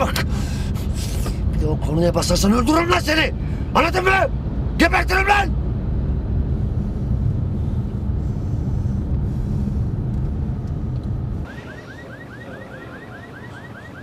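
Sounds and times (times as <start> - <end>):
car cabin road rumble: 0.0 - 11.8.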